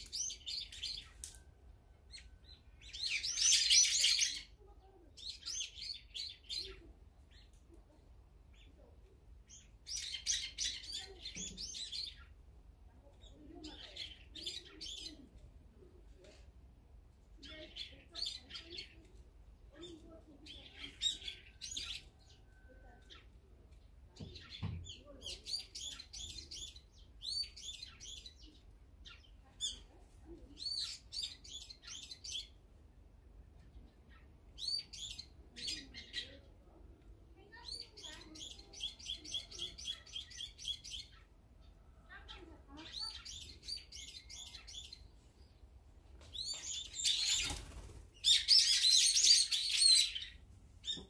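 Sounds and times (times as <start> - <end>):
sparrows chirping: 0.0 - 51.0.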